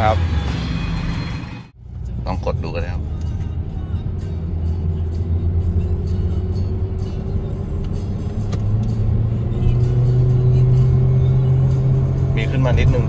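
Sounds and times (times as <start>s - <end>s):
car engine drone under throttle: 0.0s - 13.0s.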